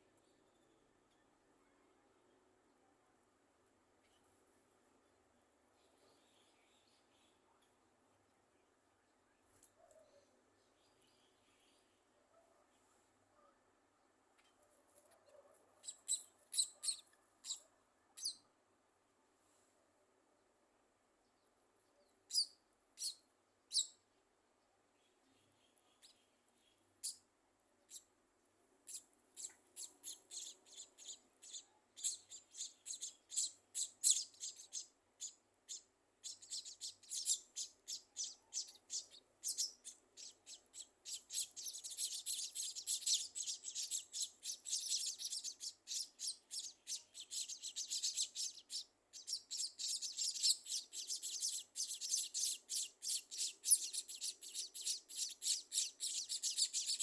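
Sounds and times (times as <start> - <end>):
small birds chirping: 0.0 - 13.2, 14.2 - 18.6, 21.1 - 57.0.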